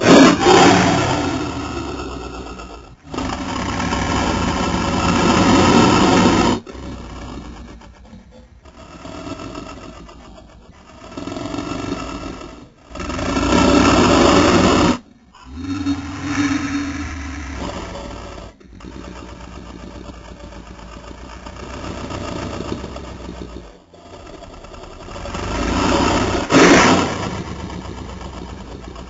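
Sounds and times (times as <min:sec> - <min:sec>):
monster roars: 0:00.0 - 0:29.0
rough growls: 0:00.0 - 0:29.0.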